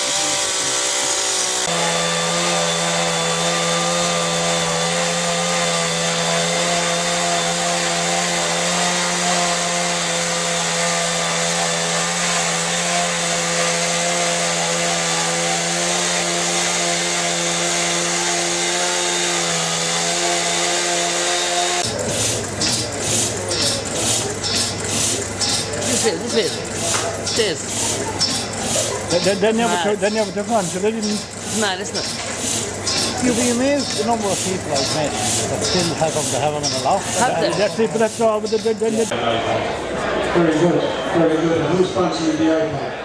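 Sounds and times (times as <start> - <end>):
chainsaw running: 0.0 - 39.2.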